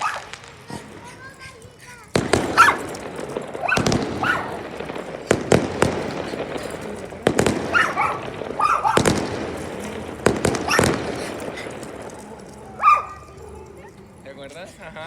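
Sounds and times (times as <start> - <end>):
fireworks bangs: 0.0 - 14.2.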